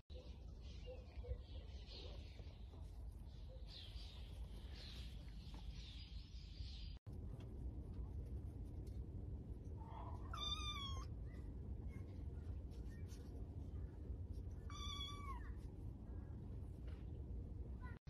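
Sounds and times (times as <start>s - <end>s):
small birds chirping: 0.1s - 7.0s, 9.7s - 18.0s
low outdoor rumble: 2.0s - 18.0s.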